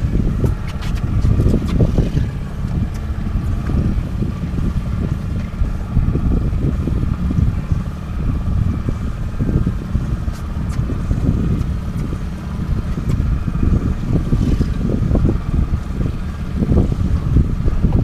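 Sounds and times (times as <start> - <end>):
boat motor running: 0.0 - 18.0
wind buffeting microphone: 0.0 - 18.0.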